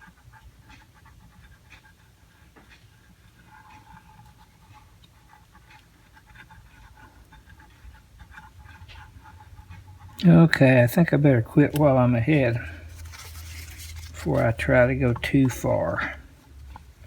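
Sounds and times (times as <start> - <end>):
hand scrubbing: 3.1 - 17.0.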